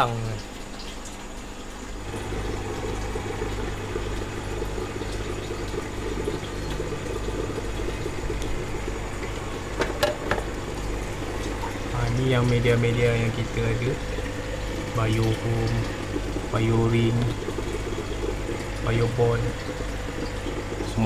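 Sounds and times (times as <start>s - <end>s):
aquarium pump humming: 0.0s - 21.0s
water running: 0.0s - 21.0s.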